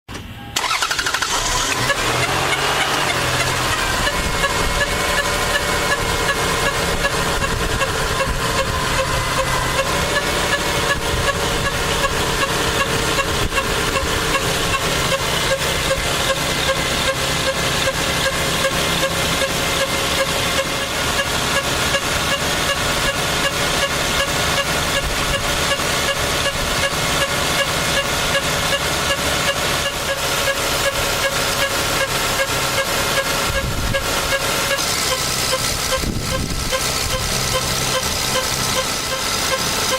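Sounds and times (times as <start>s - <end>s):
car engine whining and ticking: 0.1s - 39.9s.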